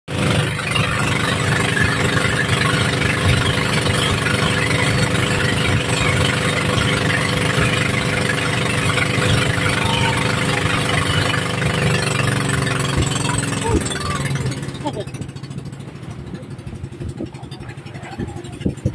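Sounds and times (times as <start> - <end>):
boat engine droning: 0.1 - 18.9.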